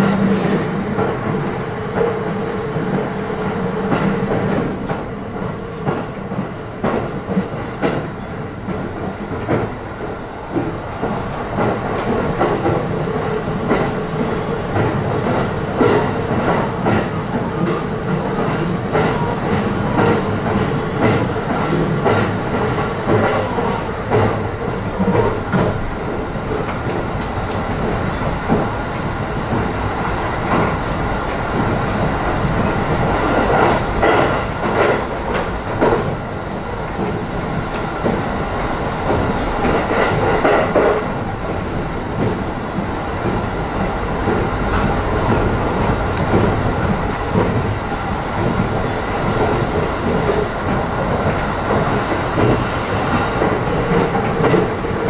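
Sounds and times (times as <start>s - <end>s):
train wheels rumbling: 0.0s - 55.0s
rail-joint clatter: 2.8s - 55.0s.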